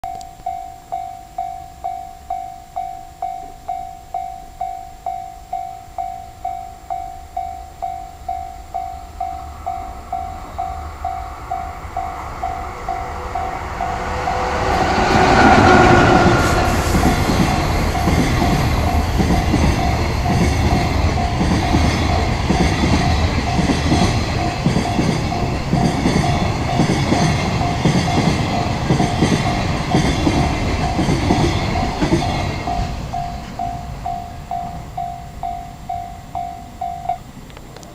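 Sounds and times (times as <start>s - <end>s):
level-crossing warning bell ringing: 0.0s - 37.5s
electric locomotive passing: 0.4s - 37.9s.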